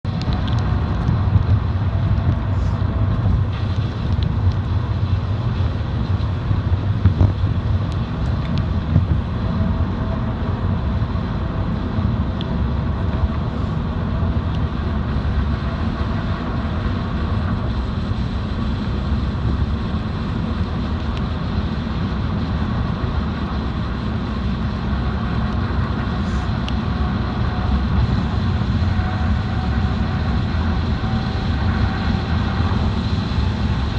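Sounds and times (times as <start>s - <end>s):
car driving rumble: 0.0s - 33.9s.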